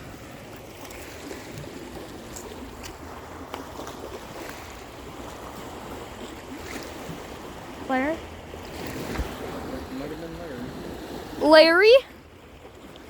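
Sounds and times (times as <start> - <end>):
water washing against shore: 0.0 - 13.0.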